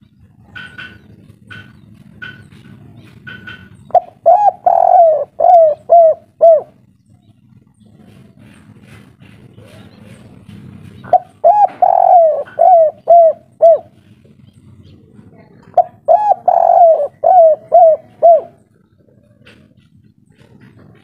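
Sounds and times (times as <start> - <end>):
dove cooing: 0.0 - 7.0, 7.8 - 21.0.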